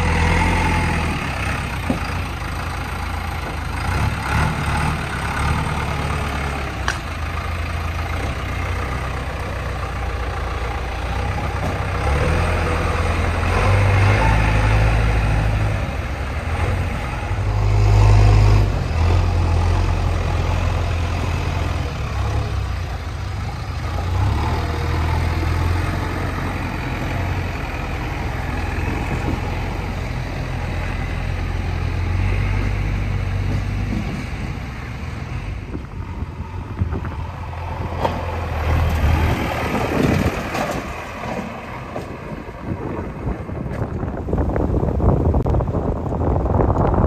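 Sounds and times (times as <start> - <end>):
diesel engine under load: 0.0 - 47.0.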